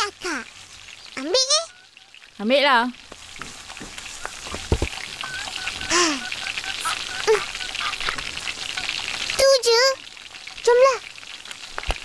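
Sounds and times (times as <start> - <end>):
steady crackling hiss: 0.0 - 12.0.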